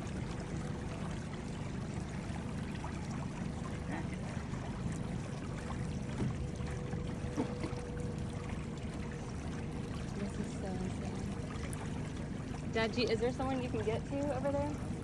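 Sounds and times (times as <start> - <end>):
boat motor rumbling: 0.0 - 15.0
faint motor whine: 0.0 - 15.0
water trickling: 0.0 - 15.0.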